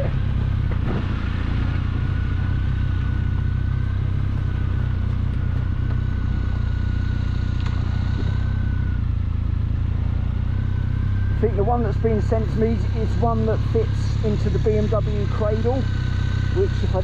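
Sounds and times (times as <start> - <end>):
motorcycle engine running: 0.0 - 17.0
thin steady whine: 0.0 - 17.0.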